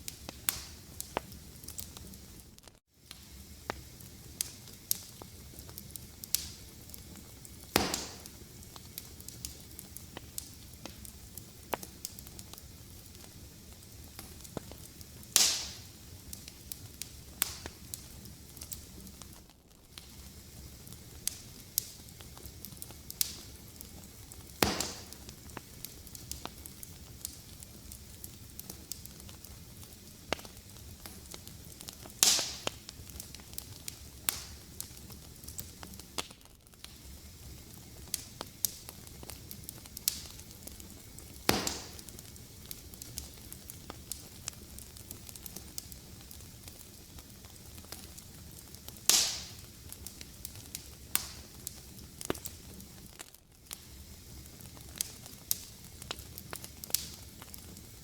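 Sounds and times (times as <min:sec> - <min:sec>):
wood fire crackling: 0:00.0 - 0:58.0
loud sharp fire pops: 0:00.1 - 0:02.1, 0:03.1 - 0:12.5, 0:14.2 - 0:27.5, 0:30.3 - 0:37.2, 0:37.9 - 0:46.0, 0:47.5 - 0:57.6.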